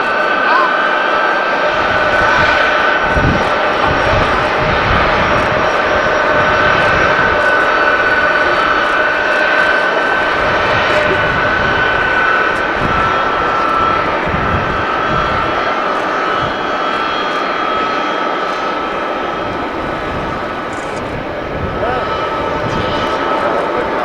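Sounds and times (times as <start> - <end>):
jet engines whining: 0.0 - 24.0
wind buffeting microphone: 0.0 - 24.0.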